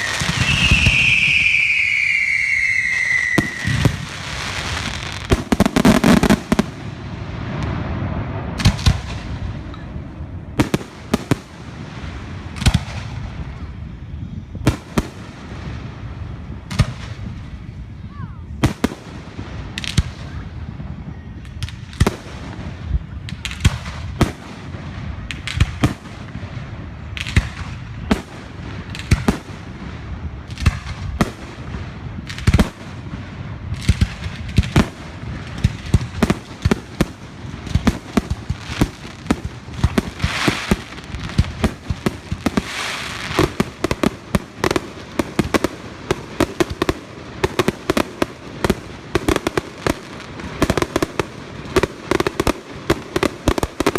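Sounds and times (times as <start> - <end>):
fireworks bangs and pops: 0.0 - 13.8, 21.4 - 53.9
fireworks crackling: 0.0 - 53.9.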